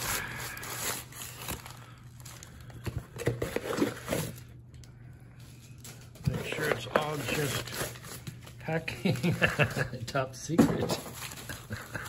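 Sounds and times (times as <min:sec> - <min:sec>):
packing material crinkling: 0:00.0 - 0:04.5, 0:05.4 - 0:09.9, 0:10.9 - 0:12.0.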